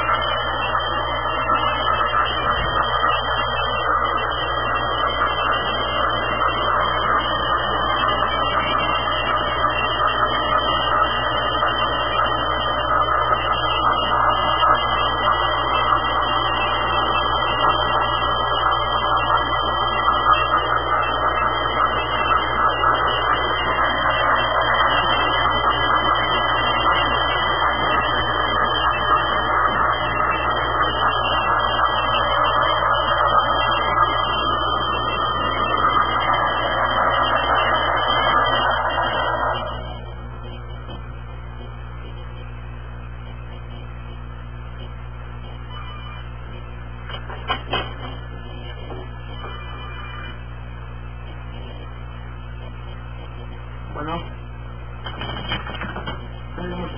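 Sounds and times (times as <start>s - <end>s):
low hum: 0.0s - 56.9s.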